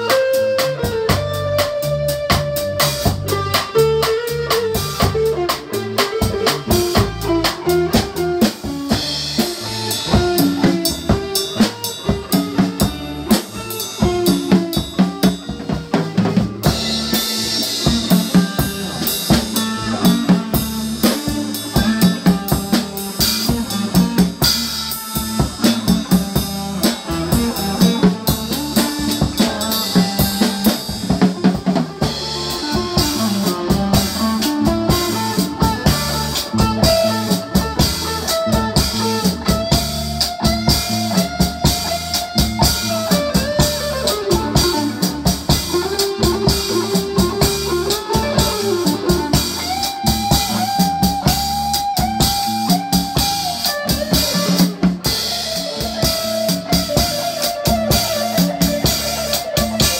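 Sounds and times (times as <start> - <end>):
drum kit beat: 0.0 - 59.9
electric bass line: 0.0 - 59.9
electric guitar sliding lead: 0.0 - 59.9.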